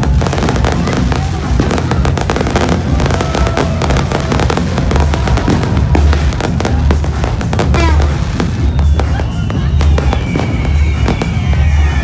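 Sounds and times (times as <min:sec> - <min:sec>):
fireworks cracks and pops: 0:00.0 - 0:12.0
music playing: 0:00.0 - 0:12.0.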